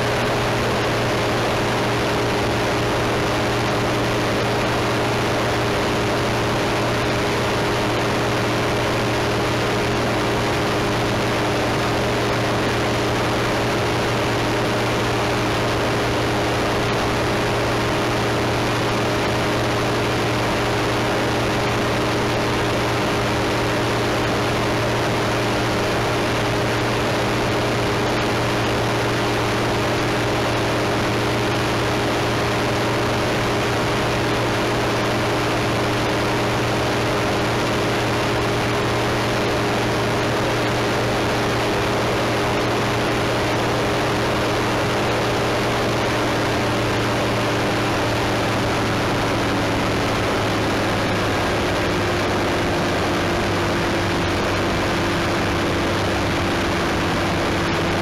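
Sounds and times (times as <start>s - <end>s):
propeller aircraft engine running: 0.0s - 58.0s.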